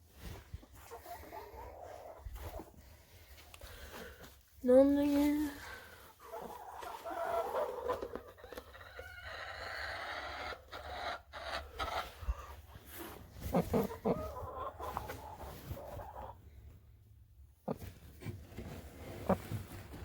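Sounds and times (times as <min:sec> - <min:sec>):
hens clucking: 0:00.3 - 0:04.0, 0:05.9 - 0:16.5, 0:17.5 - 0:20.0.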